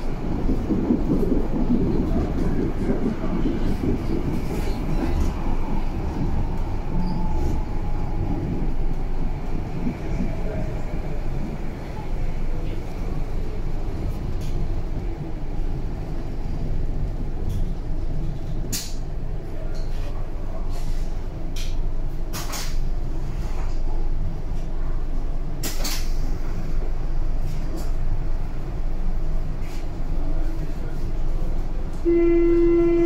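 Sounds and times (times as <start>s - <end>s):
sharp clacks of train: 0.0s - 33.0s
train rumbling: 0.0s - 33.0s.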